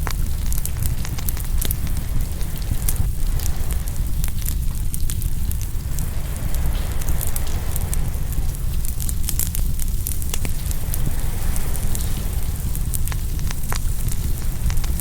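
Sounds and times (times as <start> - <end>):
ocean surf rumble: 0.0 - 15.0
wood fire crackling: 0.0 - 15.0.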